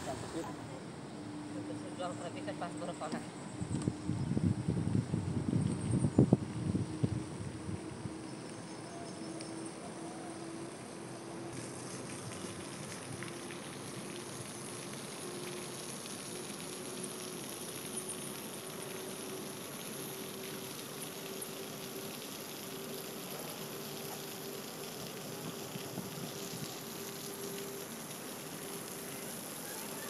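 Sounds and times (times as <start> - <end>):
water fizzing hiss: 0.0 - 3.4, 4.7 - 30.0
faint wavering hum: 0.0 - 30.0.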